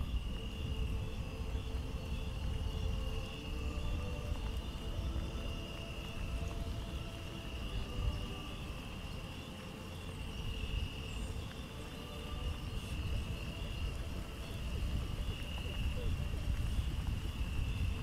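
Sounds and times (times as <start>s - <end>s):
constant low rumble: 0.0s - 18.0s
insects chirring: 0.0s - 18.0s.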